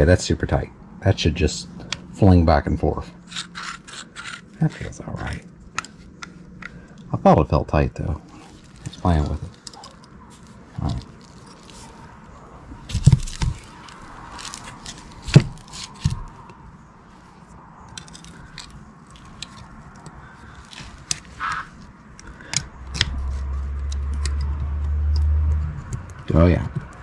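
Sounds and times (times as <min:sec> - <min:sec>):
steady low hum: 0:00.0 - 0:27.0
parts scraping on workbench: 0:01.8 - 0:07.2, 0:08.3 - 0:27.0
metal parts clicking and knocking: 0:03.1 - 0:07.2, 0:08.3 - 0:17.3, 0:17.9 - 0:27.0.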